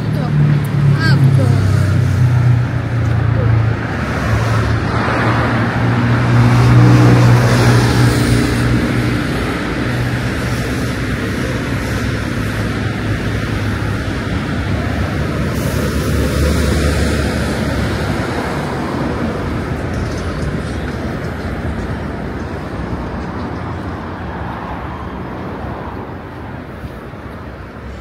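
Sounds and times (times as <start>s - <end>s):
road noise: 0.0s - 28.0s
vehicle engine rumbling: 0.0s - 28.0s.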